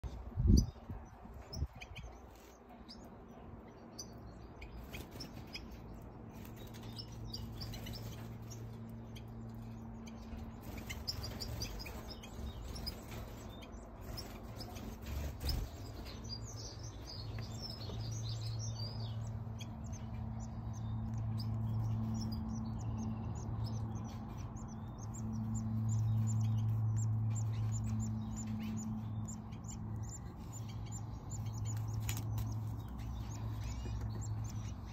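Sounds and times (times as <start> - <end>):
finches chirping and twittering: 0.1 - 34.9
low steady hum: 2.6 - 34.9.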